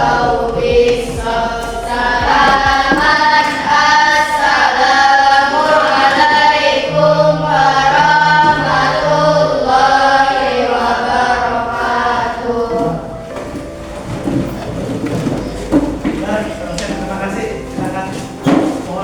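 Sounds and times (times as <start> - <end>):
children singing in unison: 0.0 - 15.9.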